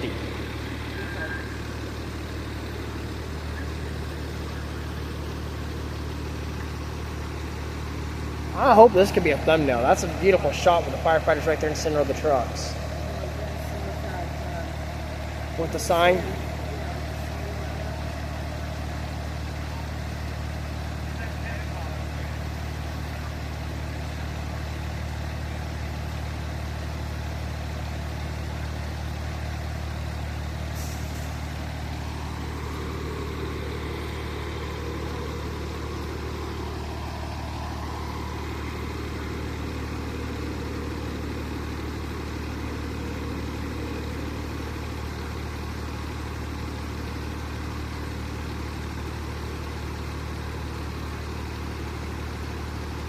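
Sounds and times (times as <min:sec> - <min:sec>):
fire truck engine idling: 0:00.0 - 0:53.0.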